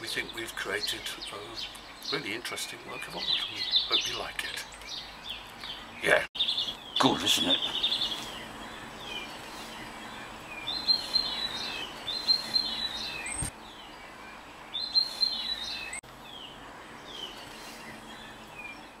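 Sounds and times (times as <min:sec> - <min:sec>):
background hiss: 0:00.0 - 0:19.0
small birds singing: 0:00.0 - 0:19.0.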